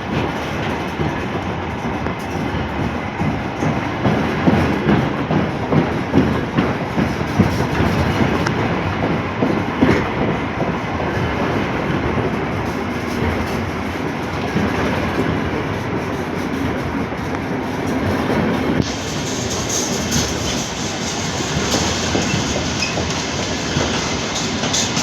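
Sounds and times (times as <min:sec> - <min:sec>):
train rumbling on rails: 0:00.0 - 0:25.0
wheels clicking over rail joints: 0:00.0 - 0:25.0.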